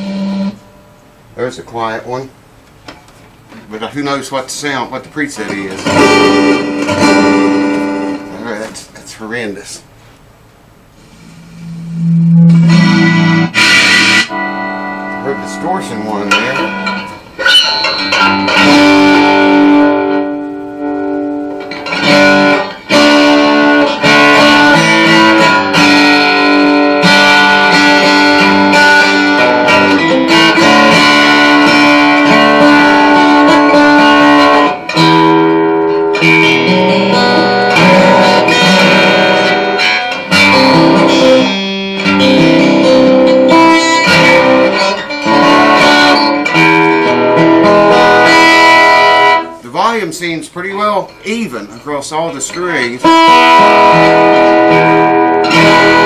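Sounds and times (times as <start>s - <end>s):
acoustic guitar through amp: 0.0s - 56.0s.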